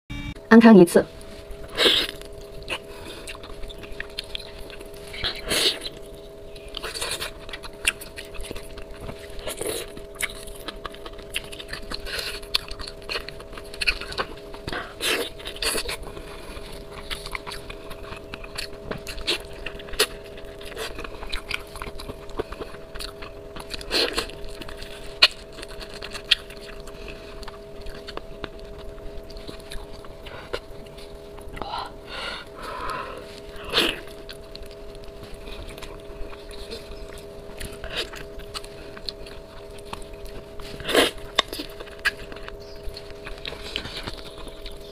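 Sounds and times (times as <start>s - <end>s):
faint steady hum: 0.1s - 44.9s
wet chewing and smacking: 1.2s - 44.9s.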